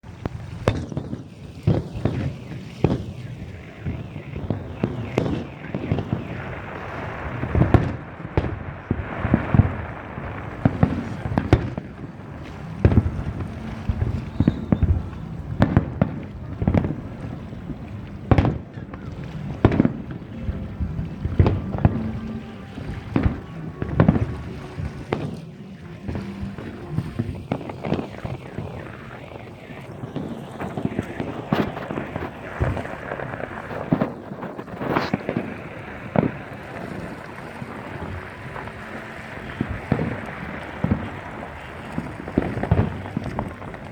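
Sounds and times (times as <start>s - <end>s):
continuous low rumble: 0.0s - 43.9s
fireworks bangs: 0.0s - 43.9s
steady rushing noise: 0.0s - 43.9s.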